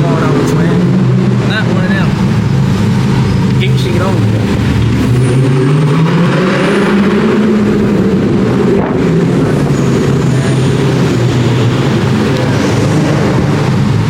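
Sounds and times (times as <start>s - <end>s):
car engine droning inside car: 0.0s - 14.0s.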